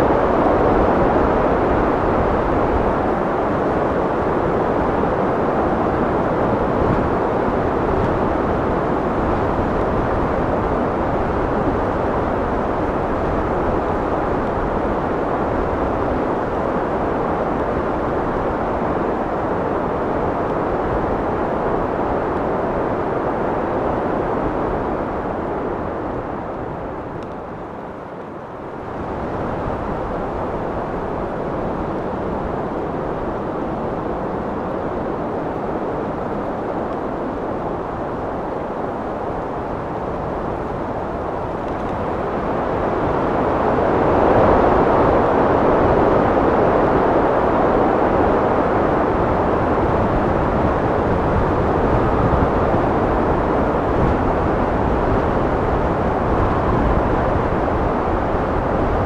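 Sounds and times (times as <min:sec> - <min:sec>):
wind roaring: 0:00.0 - 0:59.0.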